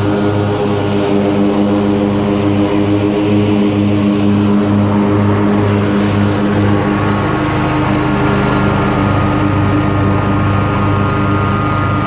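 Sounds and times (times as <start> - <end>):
mower engine drone: 0.0 - 12.0.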